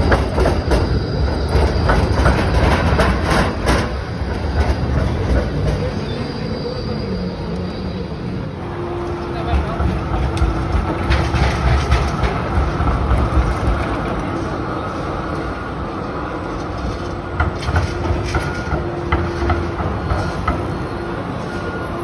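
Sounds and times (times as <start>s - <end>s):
tram clicking over rail joints: 0.0s - 22.0s
tram wheels rumbling: 0.0s - 22.0s.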